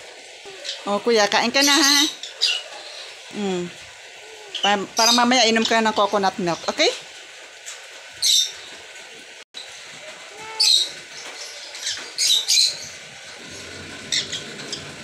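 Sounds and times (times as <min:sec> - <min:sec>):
rain on paving: 0:00.0 - 0:15.0.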